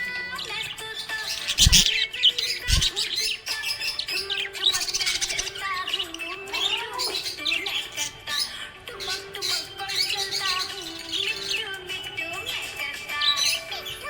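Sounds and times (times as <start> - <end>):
parrots chirping: 0.0 - 14.0.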